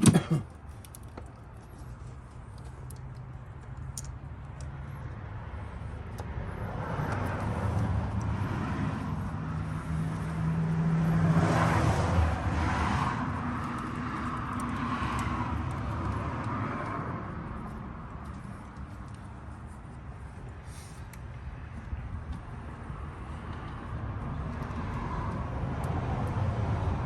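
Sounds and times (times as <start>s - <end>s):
passing motor vehicle: 2.6s - 27.0s.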